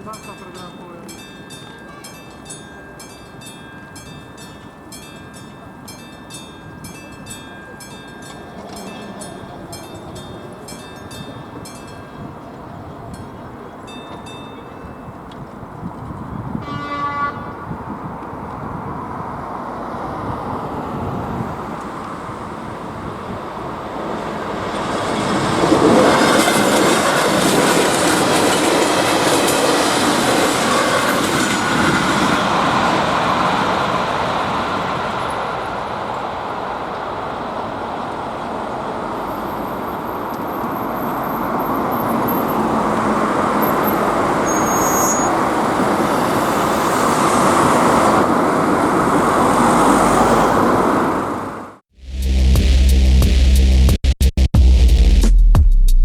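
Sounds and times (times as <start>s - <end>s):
train wheels rumbling on rails: 0.0s - 16.7s, 17.4s - 51.7s.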